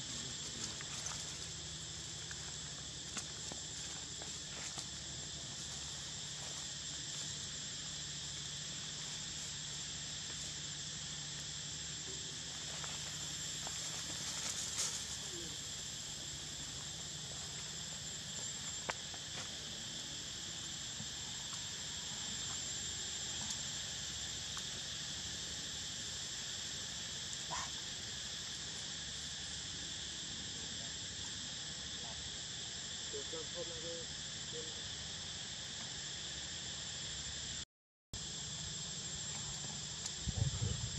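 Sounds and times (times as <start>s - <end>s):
insects droning: 0.0s - 37.6s, 38.2s - 40.9s.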